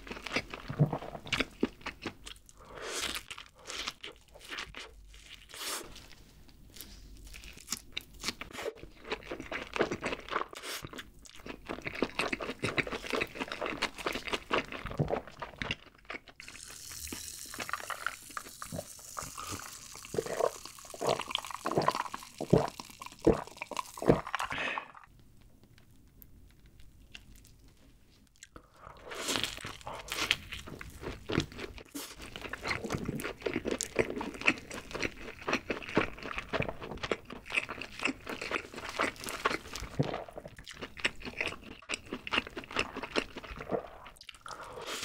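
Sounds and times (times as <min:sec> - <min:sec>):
chewing burger: 0:00.0 - 0:24.6, 0:25.6 - 0:45.0.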